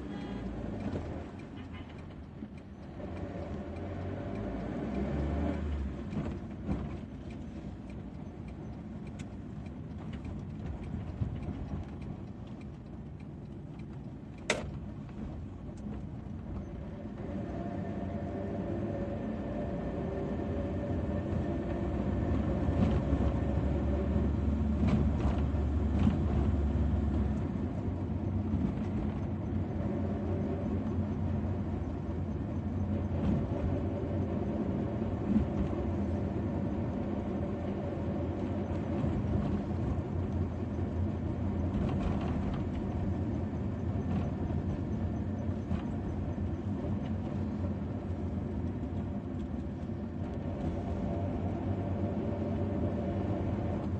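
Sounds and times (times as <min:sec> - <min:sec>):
car cabin road rumble: 0:00.0 - 0:53.9.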